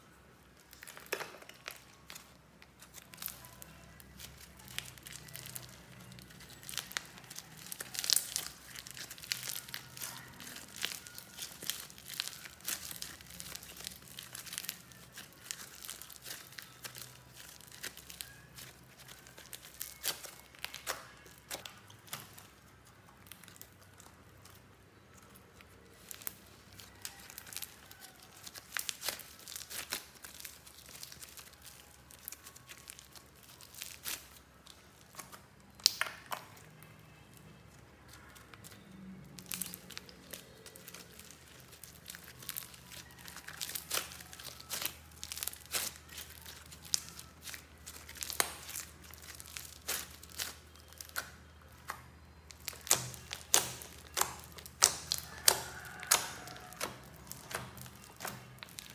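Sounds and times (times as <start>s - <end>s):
sticky slime crackles: 0.0s - 58.9s.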